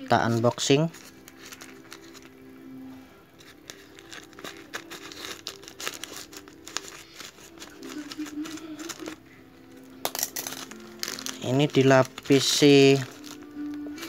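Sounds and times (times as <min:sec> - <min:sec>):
plastic mailer crinkling and tearing: 0:00.2 - 0:02.4, 0:03.4 - 0:09.3, 0:10.2 - 0:14.0.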